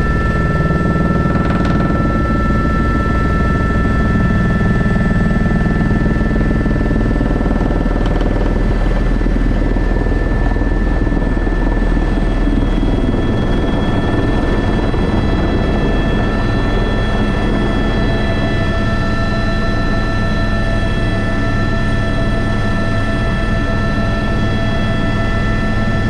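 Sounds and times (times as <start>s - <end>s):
helicopter rotor noise: 0.0s - 26.0s
helicopter turbine whining: 0.0s - 26.0s.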